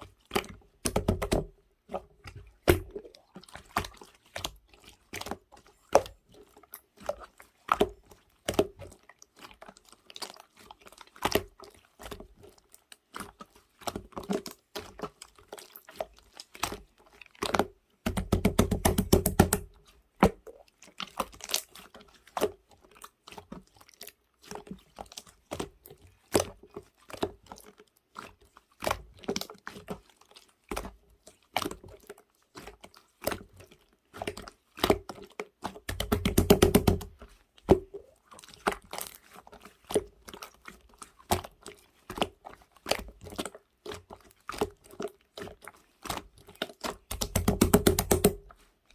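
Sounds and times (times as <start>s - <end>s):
slime squishing with sticky pops: 0.1s - 48.9s.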